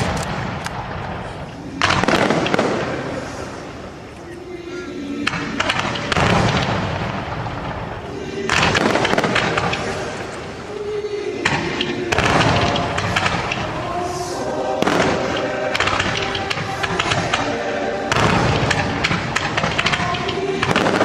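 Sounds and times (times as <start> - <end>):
fireworks shells bursting: 0.0 - 4.2, 5.2 - 21.0
fireworks crackling: 0.0 - 21.0
show music: 1.5 - 21.0.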